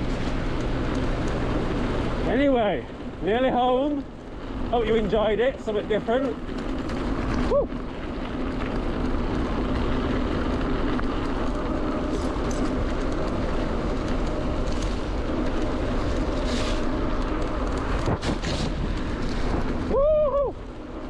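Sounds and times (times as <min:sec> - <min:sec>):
tyres and wind rumbling: 0:00.0 - 0:21.0.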